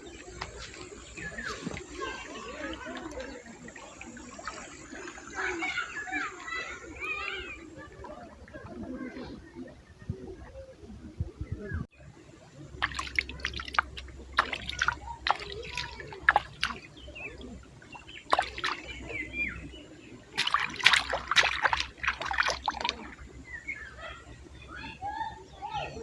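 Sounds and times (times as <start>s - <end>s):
water splashing and trickling: 0.0s - 10.2s, 11.9s - 25.9s.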